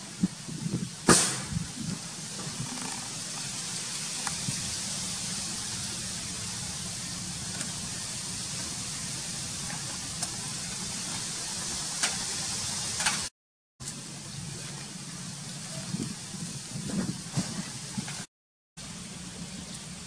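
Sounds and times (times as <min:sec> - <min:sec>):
steady hissing noise: 0:00.0 - 0:20.0.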